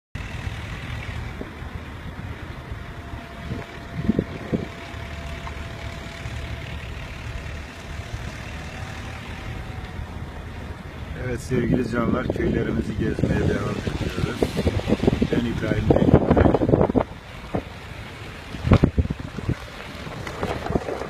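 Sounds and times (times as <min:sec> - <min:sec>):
vehicle rumbling on dirt road: 0:00.1 - 0:21.0.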